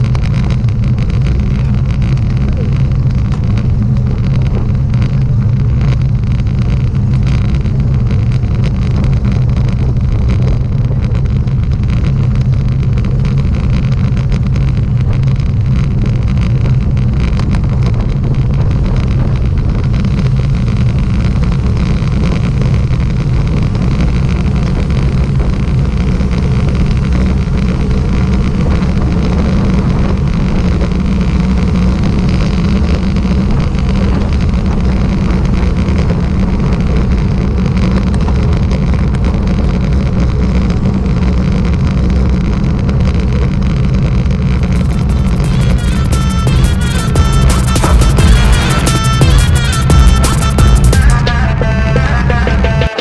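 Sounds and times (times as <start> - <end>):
vehicle engine droning: 0.0 - 53.0
wind and road rush: 0.0 - 53.0.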